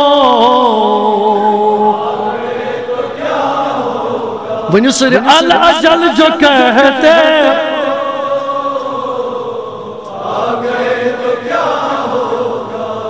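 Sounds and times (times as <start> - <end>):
chorus singing long held notes: 0.0 - 13.0.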